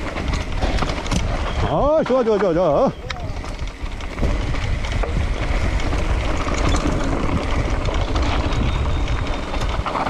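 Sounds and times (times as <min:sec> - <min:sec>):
mountain bike rolling on dirt: 0:00.0 - 0:10.0
wind buffeting microphone: 0:00.0 - 0:10.0.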